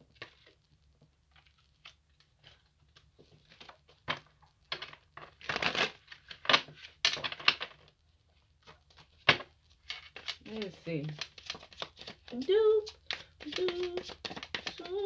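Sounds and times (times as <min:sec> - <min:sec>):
cards being shuffled: 0:01.4 - 0:07.9, 0:08.6 - 0:15.0.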